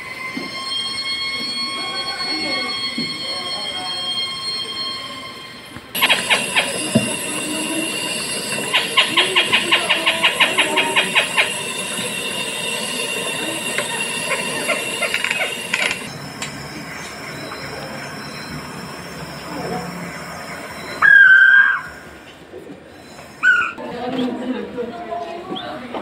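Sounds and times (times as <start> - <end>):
steady high tones: 0.0 - 23.6.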